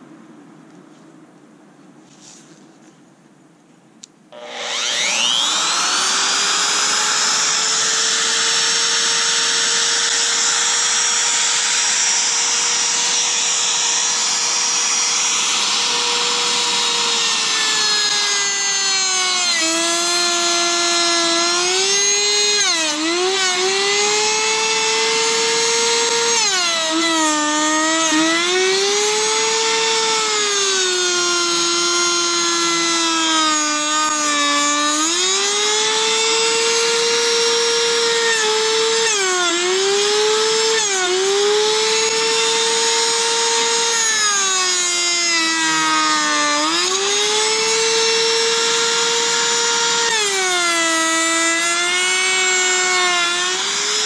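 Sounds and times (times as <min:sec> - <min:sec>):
electric router whining: 0:04.3 - 0:54.0.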